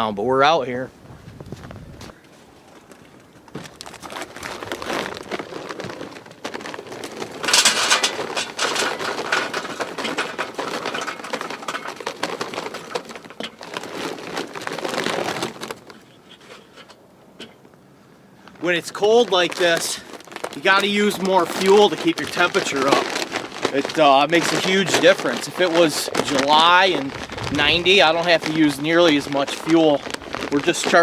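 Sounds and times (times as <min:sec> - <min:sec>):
charcoal briquettes clattering: 0:02.6 - 0:17.8, 0:18.4 - 0:31.0.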